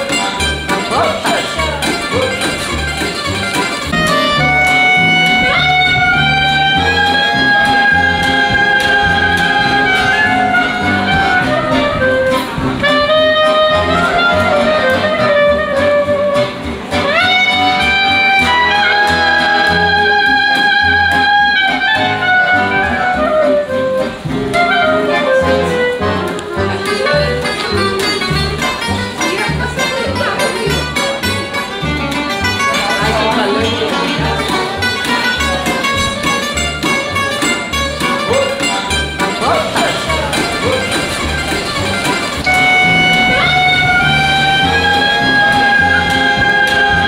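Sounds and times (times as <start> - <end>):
instrumental background music: 0.0 - 47.0.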